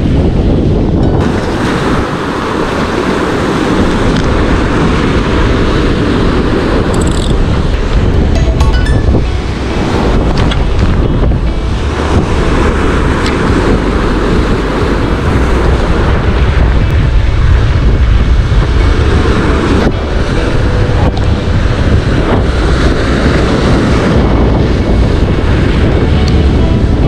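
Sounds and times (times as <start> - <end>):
wind buffeting microphone: 0.0 - 27.0
surf breaking on rocks: 1.2 - 26.1.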